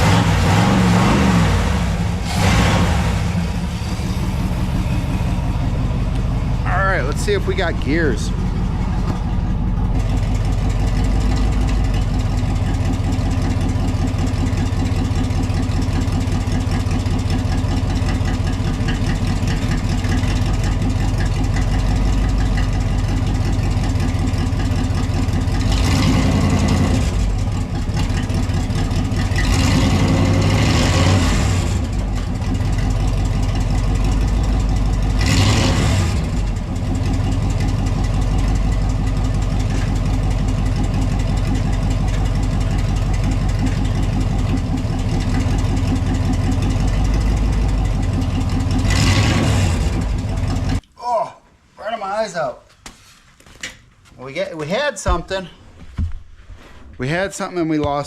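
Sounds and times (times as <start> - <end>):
car engine idling: 0.0 - 50.8
engine surges: 0.0 - 50.8.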